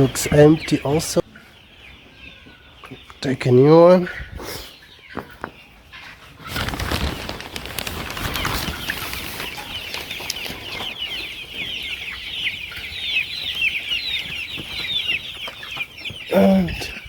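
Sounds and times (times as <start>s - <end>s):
chicks peeping and chirping: 0.0s - 17.0s.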